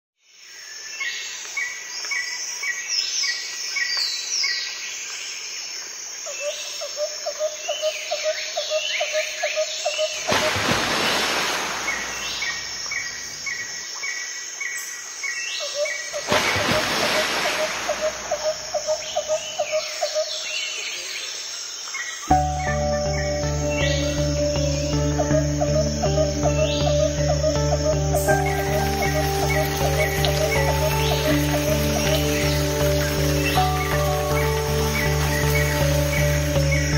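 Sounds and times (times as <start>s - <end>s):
birds calling and singing: 6.3s - 36.9s.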